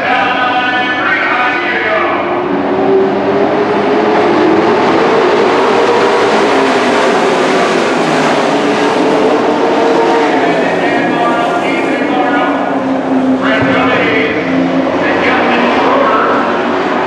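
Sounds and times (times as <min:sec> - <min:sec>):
race truck engines passing: 0:00.0 - 0:17.0.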